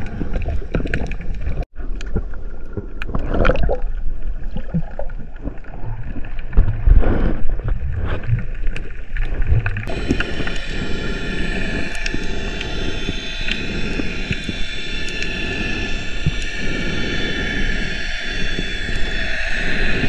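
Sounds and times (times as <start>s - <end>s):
underwater rumble and hiss: 0.0s - 20.0s.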